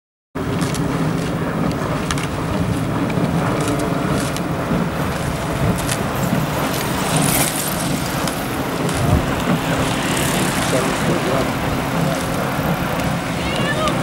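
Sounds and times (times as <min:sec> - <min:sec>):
outboard motor running: 0:00.4 - 0:14.0.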